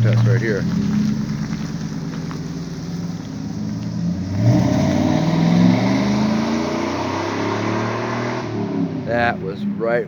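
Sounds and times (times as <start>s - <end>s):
car engine exhaust revving: 0.0s - 10.0s.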